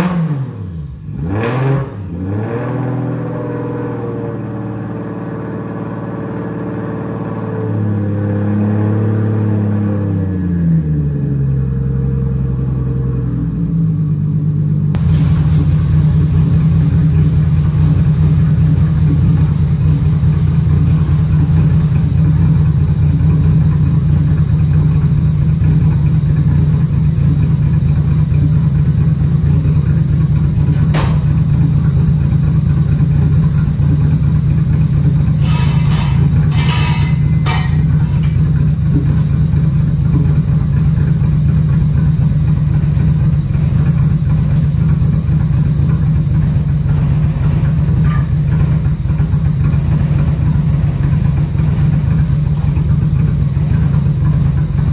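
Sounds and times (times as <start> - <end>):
car engine idling: 9.0 - 54.9.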